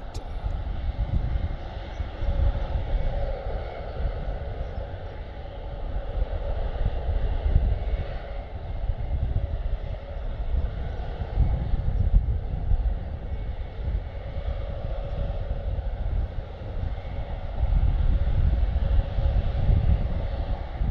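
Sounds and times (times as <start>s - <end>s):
turboprop engines humming: 0.0s - 20.9s.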